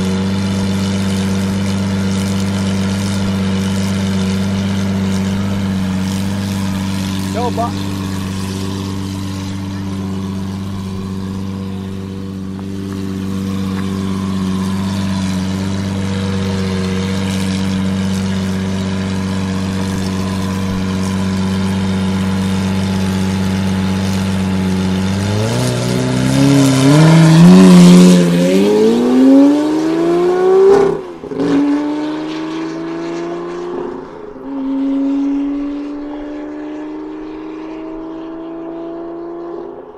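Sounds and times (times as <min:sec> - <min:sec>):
sports car engine idling and revving: 0:00.0 - 0:39.9.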